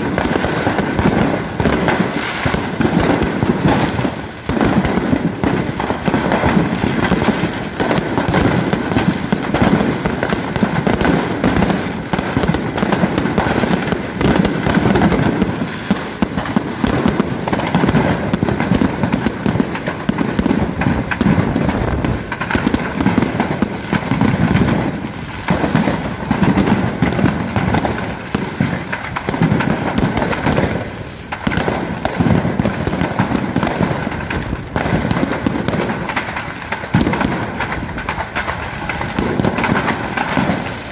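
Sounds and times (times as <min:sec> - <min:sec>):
firecracker pops and bangs: 0:00.0 - 0:40.9.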